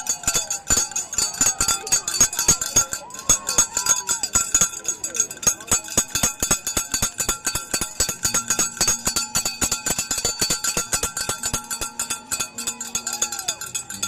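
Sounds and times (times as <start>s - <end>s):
cowbells clanging: 0.0s - 14.0s.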